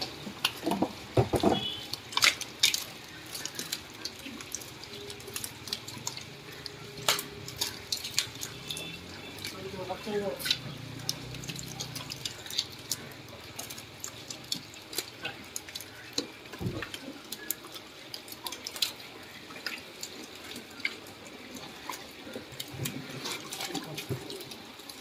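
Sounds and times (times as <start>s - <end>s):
short clicks and splats: 0.0s - 25.0s.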